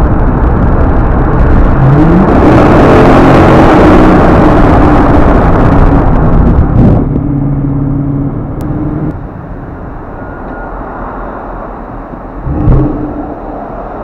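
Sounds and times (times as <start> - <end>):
car exhaust drone: 0.0 - 14.0
road noise: 0.0 - 14.0.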